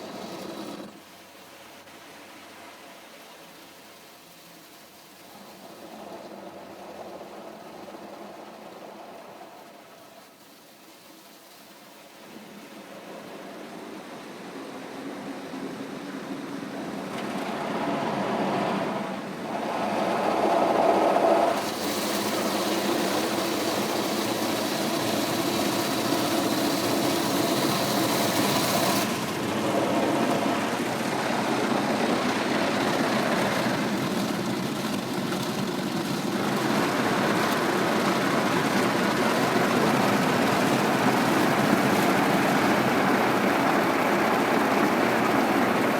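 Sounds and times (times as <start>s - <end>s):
car wash machinery: 0.0s - 10.4s, 12.6s - 45.9s.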